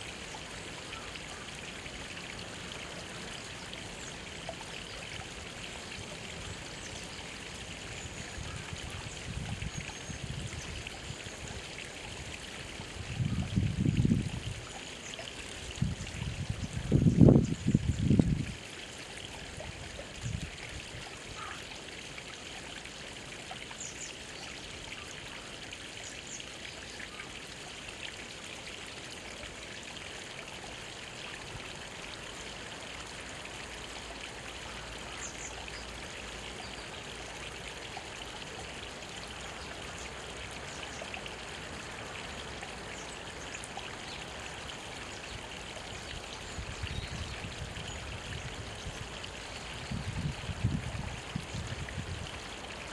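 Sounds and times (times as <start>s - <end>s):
stream babbling over rocks: 0.0s - 52.9s.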